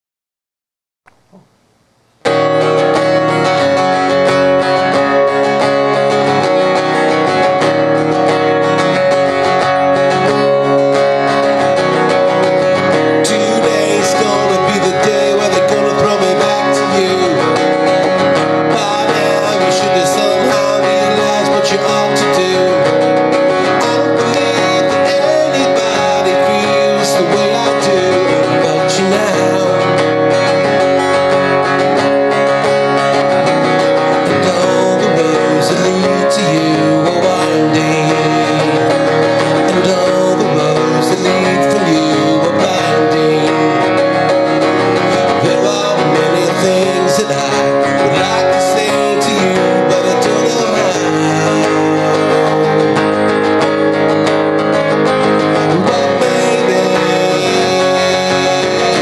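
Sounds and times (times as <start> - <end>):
acoustic guitar strumming: 1.1 - 59.0
man singing into a microphone: 3.4 - 59.0.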